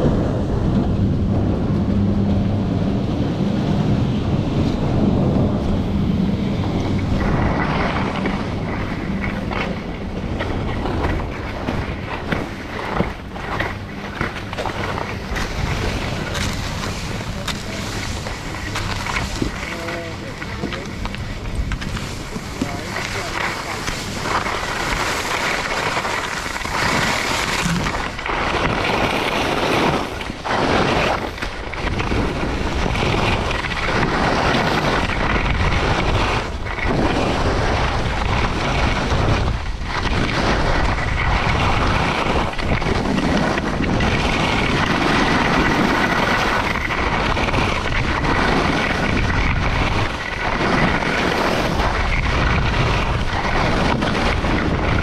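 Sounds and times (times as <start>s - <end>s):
wind buffeting microphone: 0.0s - 55.0s
skis scraping over snow: 3.4s - 55.0s.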